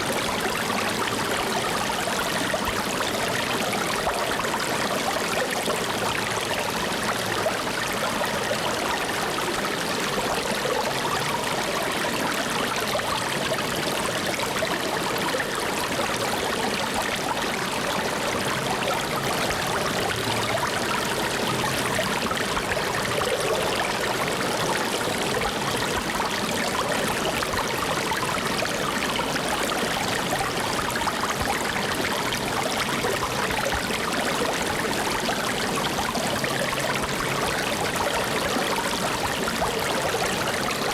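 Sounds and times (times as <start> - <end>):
water flowing steadily: 0.0 - 40.9.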